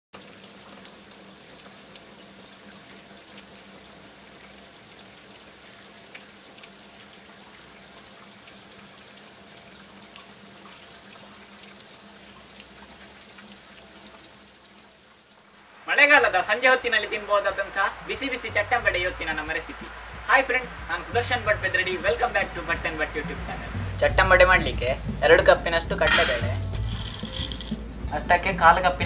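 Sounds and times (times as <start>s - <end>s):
steady rain falling: 0.2s - 28.0s
raindrops ticking: 0.8s - 28.1s.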